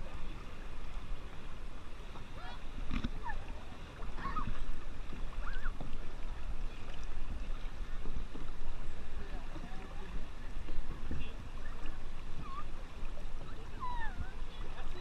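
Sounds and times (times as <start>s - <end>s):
river water running over rocks: 0.0s - 15.0s
wind rumble on microphone: 0.0s - 15.0s.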